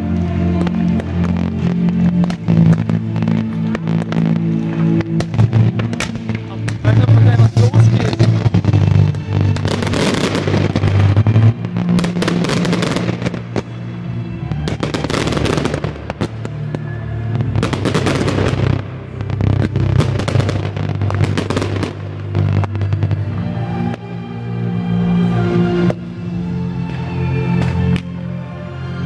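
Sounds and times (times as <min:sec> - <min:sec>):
fireworks bursting and crackling: 0:00.0 - 0:24.2
low music: 0:00.0 - 0:29.0.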